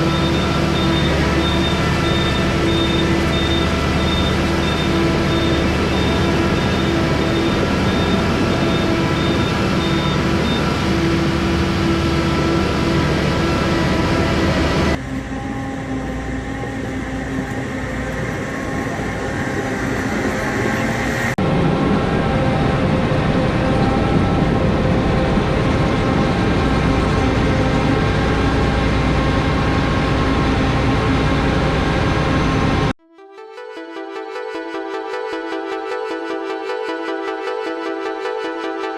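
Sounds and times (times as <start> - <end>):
heavy farm machinery humming: 0.0 - 32.9.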